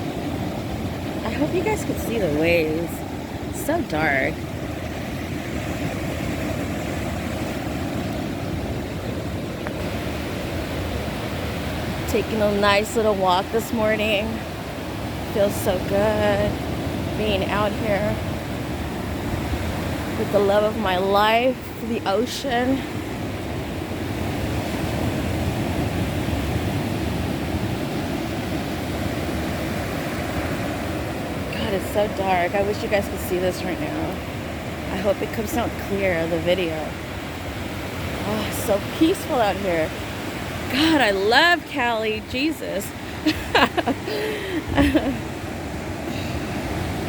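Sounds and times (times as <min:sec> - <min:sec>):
ocean surf on shore: 0:00.0 - 0:47.0.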